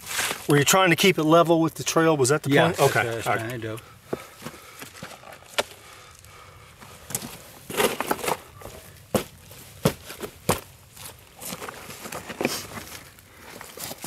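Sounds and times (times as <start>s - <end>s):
soft gravel crunching: 0.0s - 14.0s.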